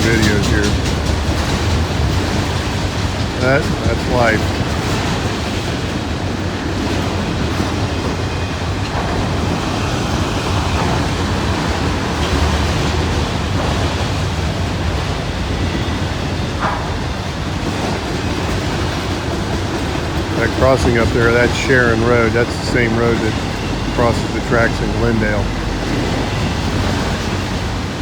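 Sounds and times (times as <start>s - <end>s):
rushing noise: 0.0s - 5.6s, 8.4s - 28.0s
freight train rumbling: 0.0s - 28.0s.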